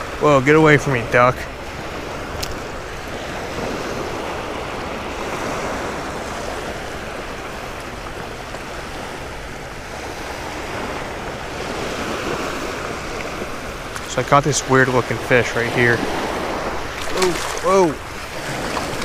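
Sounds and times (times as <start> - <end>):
small waves washing over sand: 0.0 - 19.0.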